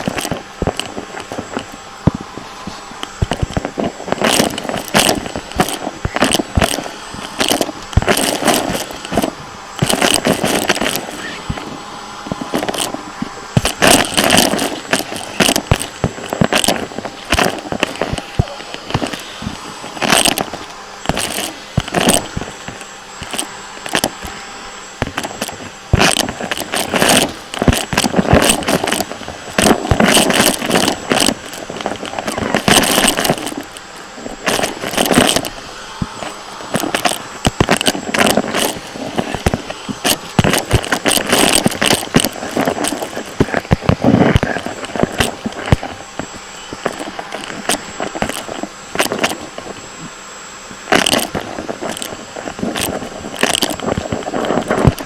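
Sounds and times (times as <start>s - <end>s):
clattering and crackling knocks: 0.0s - 55.0s
vacuum cleaner running: 0.0s - 55.0s.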